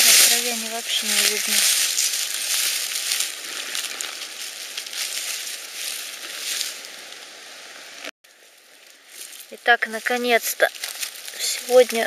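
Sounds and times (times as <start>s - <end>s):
dry leaves crackling rustle: 0.0s - 12.0s.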